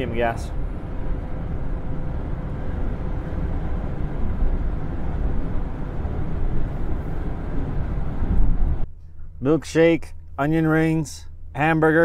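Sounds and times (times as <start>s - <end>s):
car engine running: 0.0s - 12.0s
road noise: 0.0s - 12.0s.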